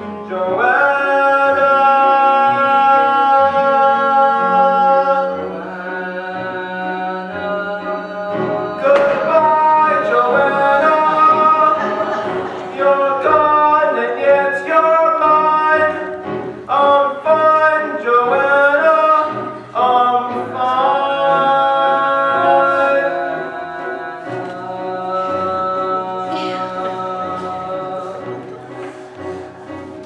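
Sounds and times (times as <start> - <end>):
person singing with vibrato: 0.0 - 30.0
pit orchestra accompaniment: 0.0 - 30.0.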